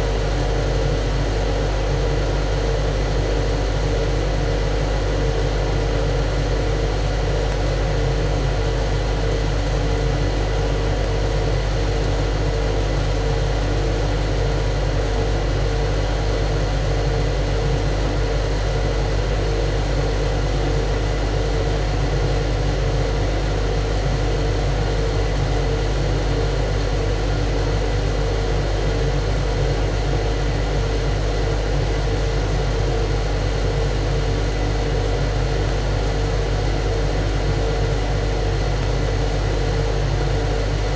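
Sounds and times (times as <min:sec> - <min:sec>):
engine room machinery drone: 0:00.0 - 0:40.9.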